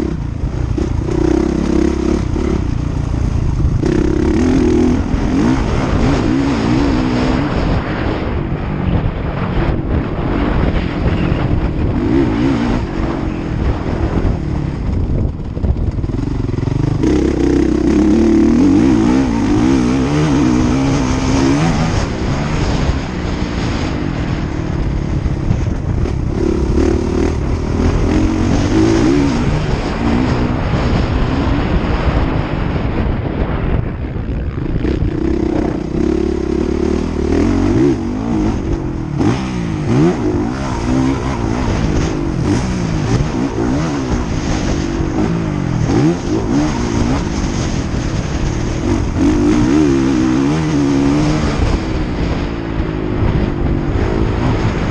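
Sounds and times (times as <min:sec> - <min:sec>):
motocross bike engines revving: 0:00.0 - 0:33.5, 0:34.2 - 0:54.9.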